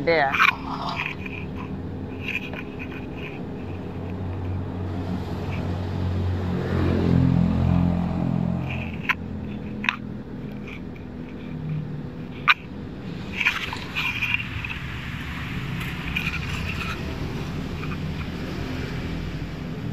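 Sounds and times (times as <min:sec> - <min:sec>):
low hum: 0:00.0 - 0:19.9
vehicle engine passing: 0:00.0 - 0:19.9.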